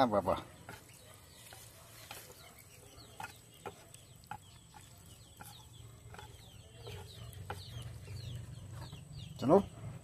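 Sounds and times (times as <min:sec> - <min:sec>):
bird chirps: 0:00.0 - 0:10.0
chewing noodles: 0:00.7 - 0:08.9.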